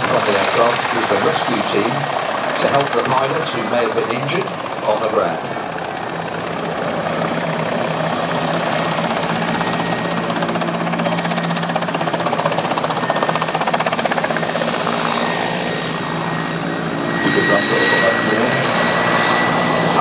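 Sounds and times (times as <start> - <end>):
helicopter engine drone: 0.0 - 20.0
helicopter rotor beating: 0.0 - 20.0.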